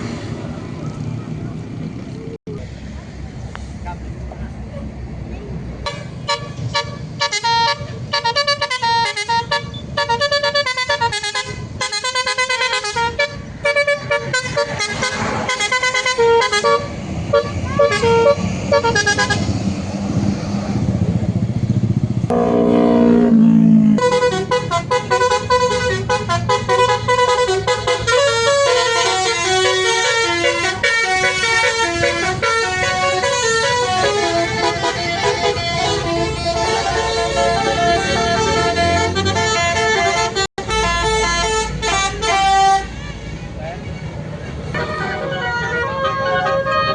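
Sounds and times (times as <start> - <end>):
multi-tone bus horn playing tunes: 5.8 - 19.6, 22.3 - 43.4, 44.0 - 46.9.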